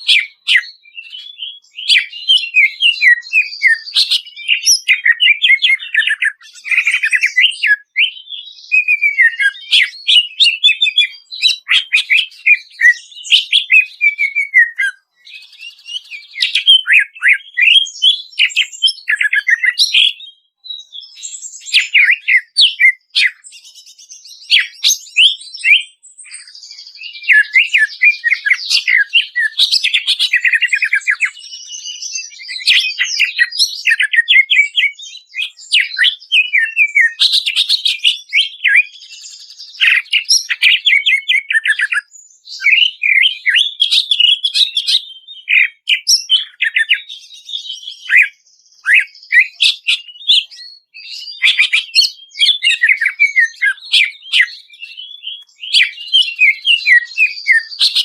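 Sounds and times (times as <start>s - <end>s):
bird singing fast varied song: 0.0s - 58.0s.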